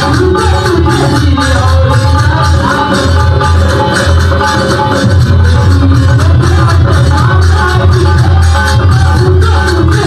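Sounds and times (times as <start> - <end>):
hand drum rhythm: 0.0 - 10.0
harmonium chords: 0.0 - 10.0.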